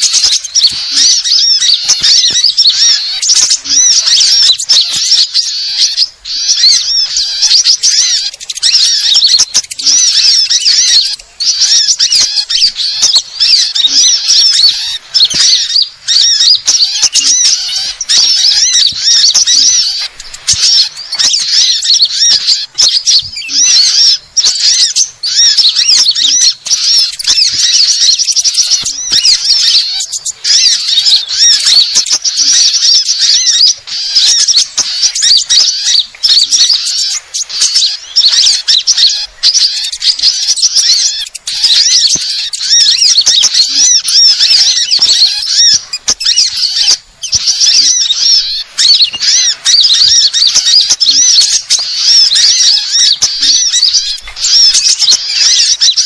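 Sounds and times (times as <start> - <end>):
songbirds chirping and calling: 0.0 - 56.0.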